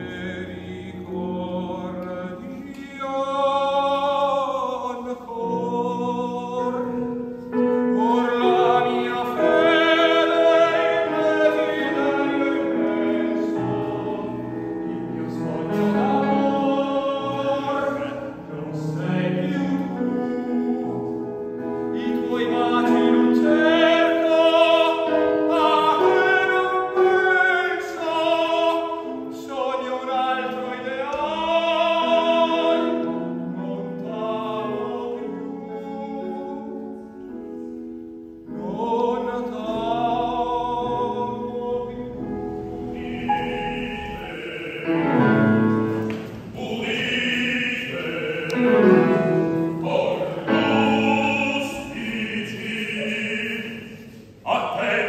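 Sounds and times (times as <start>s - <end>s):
man singing opera: 0.0s - 37.7s, 38.3s - 55.0s
grand piano: 0.0s - 55.0s.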